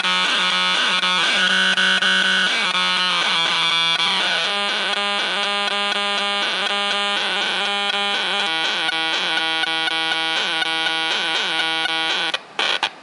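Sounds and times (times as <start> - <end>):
distorted buzzing keyboard: 0.0 - 13.0.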